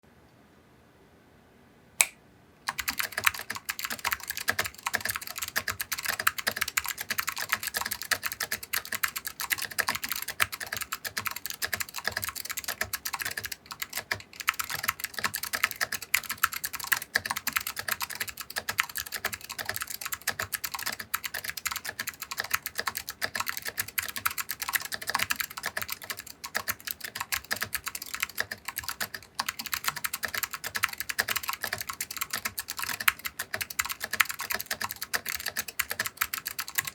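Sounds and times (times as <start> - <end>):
clicky mechanical keyboard typing: 2.7 - 36.9.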